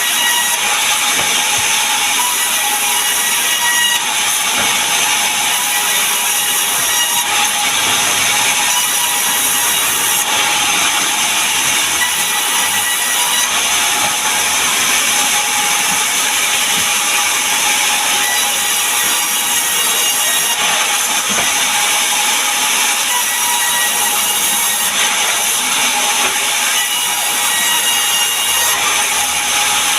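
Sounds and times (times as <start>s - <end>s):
sawmill saw cutting wood: 0.0s - 29.9s.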